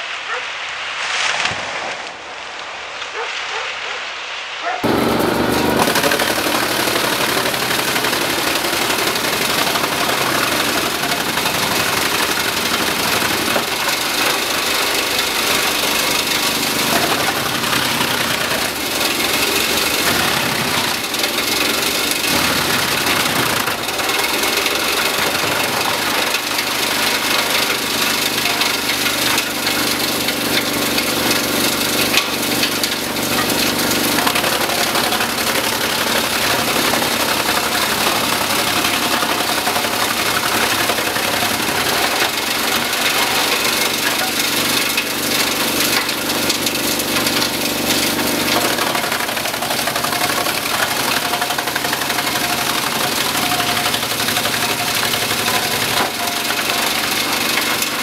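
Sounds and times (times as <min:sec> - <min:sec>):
wood chipper running: 0:04.8 - 0:58.0
wood knocking in chipper: 0:04.8 - 0:58.0.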